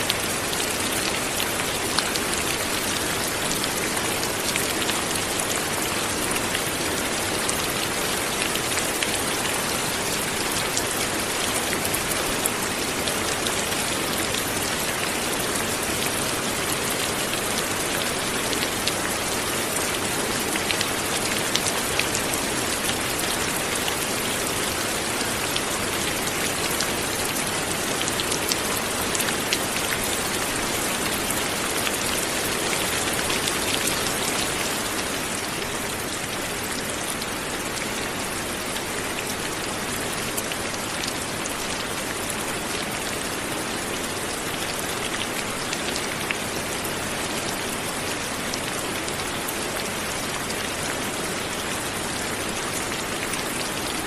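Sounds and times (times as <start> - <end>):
light rain on a surface: 0.0 - 54.0.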